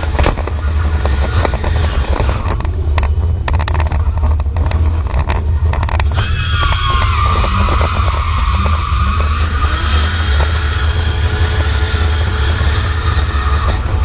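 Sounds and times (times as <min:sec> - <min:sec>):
race car engine rumbling: 0:00.0 - 0:14.0
road noise: 0:00.0 - 0:14.0
sharp clicks and knocks: 0:00.0 - 0:14.0.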